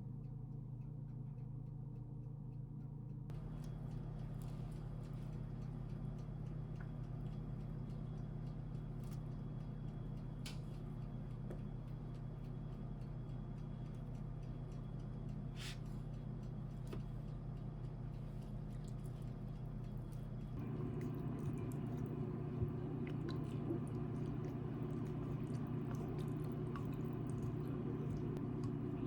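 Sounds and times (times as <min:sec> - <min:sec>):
steady low hum: 0:00.0 - 0:29.0
light clicks and taps: 0:00.2 - 0:28.9.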